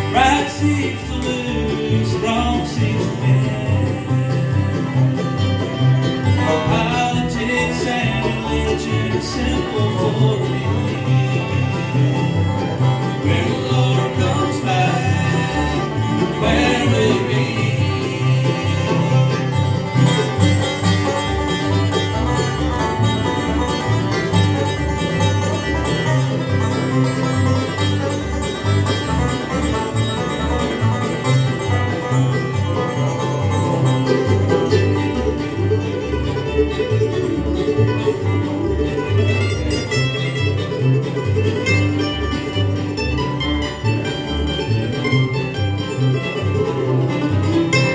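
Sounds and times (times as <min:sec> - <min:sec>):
banjo: 0:00.0 - 0:47.9
fiddle: 0:00.0 - 0:47.9
guitar: 0:00.0 - 0:47.9
mandolin: 0:00.0 - 0:47.9
upright bass notes: 0:00.0 - 0:47.9.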